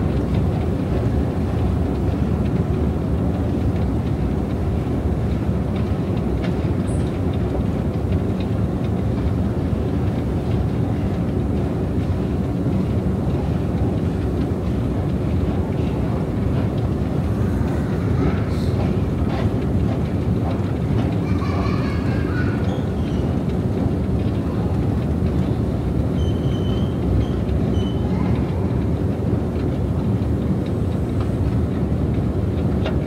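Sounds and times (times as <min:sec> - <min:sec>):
escalator mechanical rumble: 0:00.0 - 0:33.0.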